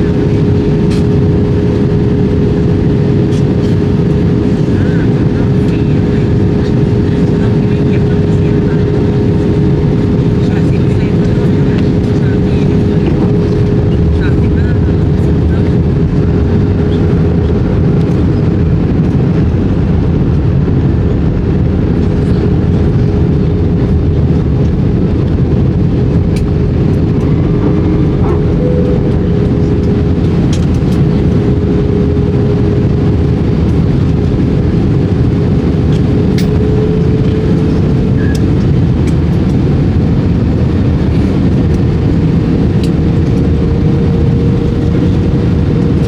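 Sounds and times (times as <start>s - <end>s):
airplane cabin roar: 0.0s - 46.0s
steady hum: 0.0s - 46.0s.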